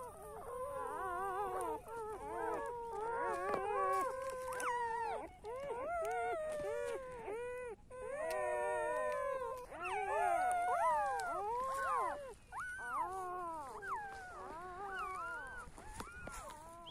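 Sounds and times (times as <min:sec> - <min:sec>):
newborn puppies crying: 0:00.0 - 0:16.9.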